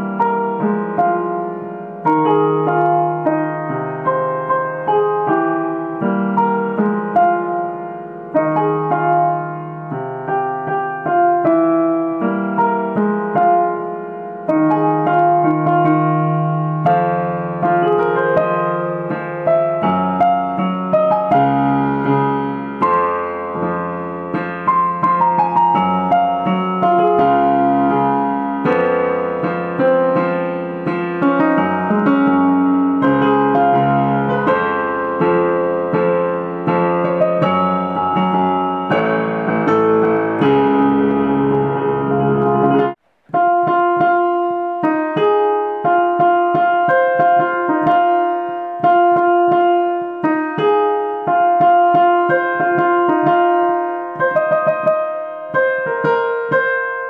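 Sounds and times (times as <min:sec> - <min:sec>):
piano chords and bass notes: 0:00.0 - 0:57.0.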